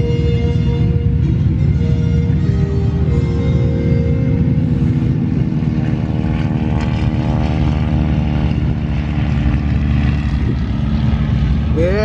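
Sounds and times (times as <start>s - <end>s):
biplane propeller engines droning: 0.0s - 12.0s.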